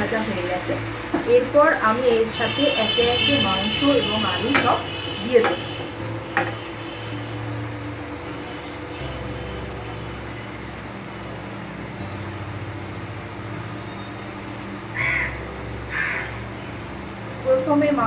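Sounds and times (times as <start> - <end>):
sauce bubbling and sizzling: 0.0 - 18.0.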